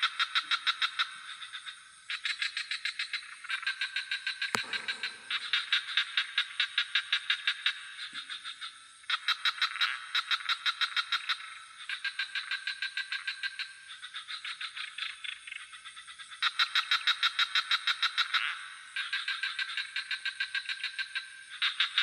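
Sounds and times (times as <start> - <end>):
frogs calling in pulsed trains: 0.0 - 22.0.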